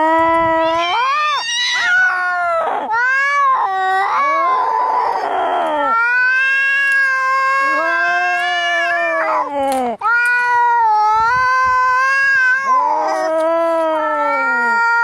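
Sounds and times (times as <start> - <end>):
cats yowling in a fight: 0.0 - 15.0.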